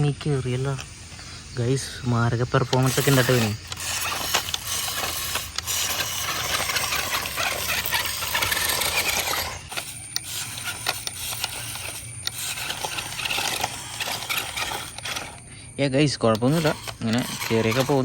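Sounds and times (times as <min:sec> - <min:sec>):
small electric motor whining: 0:00.0 - 0:18.0
tyres scraping over stones: 0:00.0 - 0:18.0.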